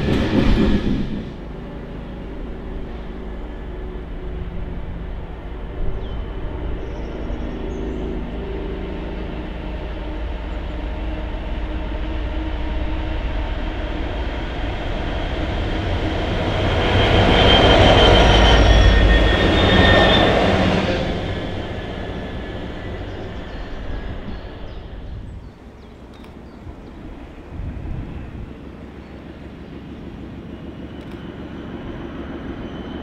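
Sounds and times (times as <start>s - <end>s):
diesel locomotive engines: 0.0s - 33.0s.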